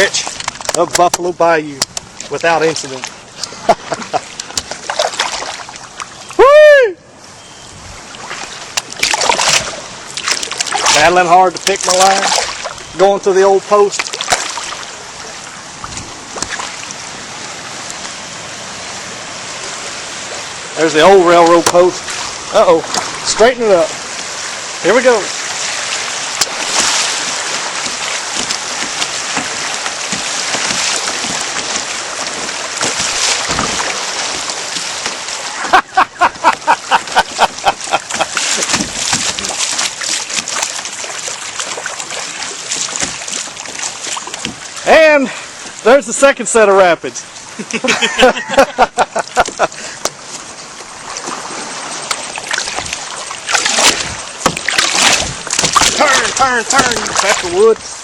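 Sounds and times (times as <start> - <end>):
paddle splashes: 0.0 - 58.0
water rushing and gurgling: 0.0 - 58.0.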